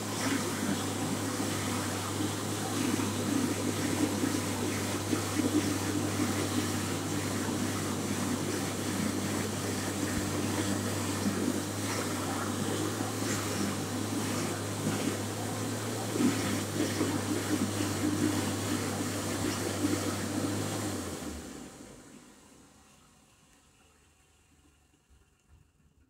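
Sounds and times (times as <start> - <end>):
hand dryer blowing: 0.0 - 22.2.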